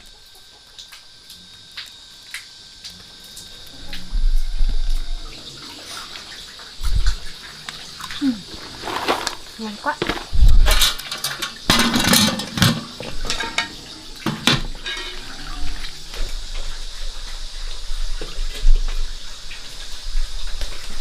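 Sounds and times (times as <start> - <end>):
water splashing and running: 0.0 - 21.0.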